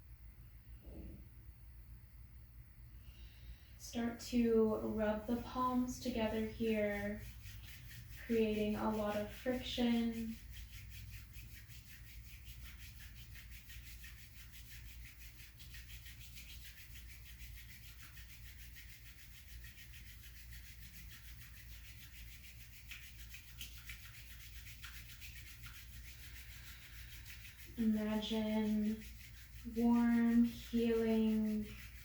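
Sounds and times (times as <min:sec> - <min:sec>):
hands rubbing together: 0:04.0 - 0:32.0.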